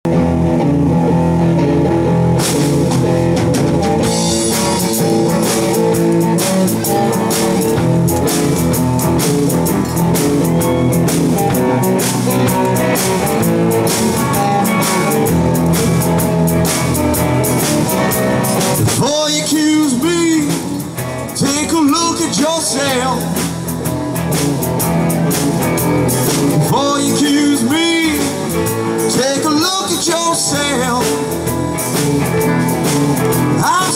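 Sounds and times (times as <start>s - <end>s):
live rock band playing: 0.0s - 33.9s.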